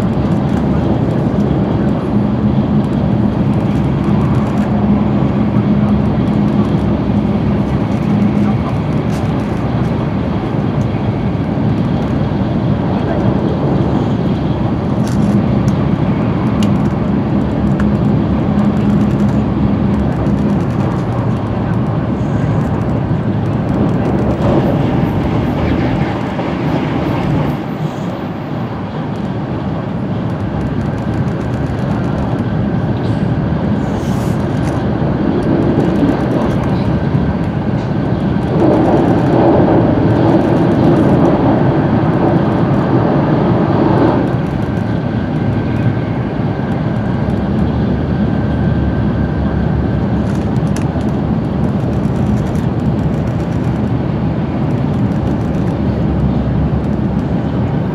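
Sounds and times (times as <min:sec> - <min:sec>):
train running noise from cabin: 0:00.0 - 0:57.9.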